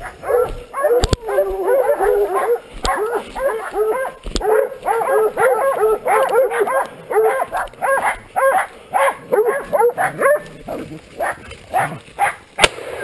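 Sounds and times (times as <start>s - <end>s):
hounds baying: 0.0s - 12.6s.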